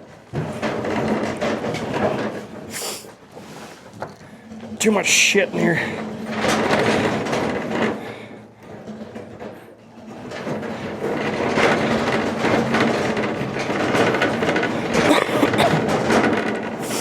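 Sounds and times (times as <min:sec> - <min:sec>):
objects scraping and clattering: 0:00.0 - 0:17.0.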